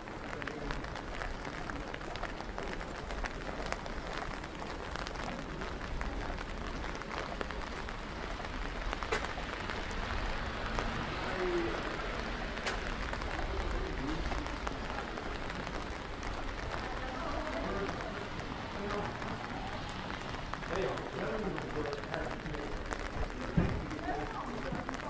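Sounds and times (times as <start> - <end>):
rain on wet pavement: 0.0 - 25.0.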